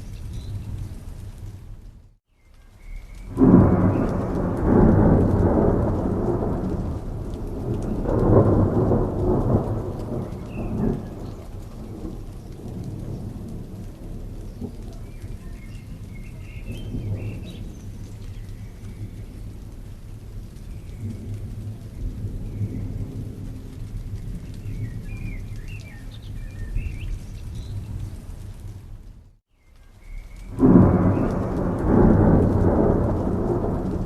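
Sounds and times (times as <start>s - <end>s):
rain falling: 0.0s - 34.0s
thunder rumbling: 0.0s - 34.0s.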